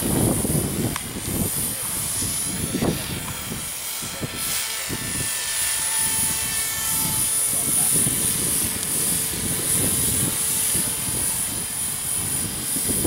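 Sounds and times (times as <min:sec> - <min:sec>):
model helicopter rotor whine: 0:00.0 - 0:13.0
wind buffeting microphone: 0:00.0 - 0:13.0.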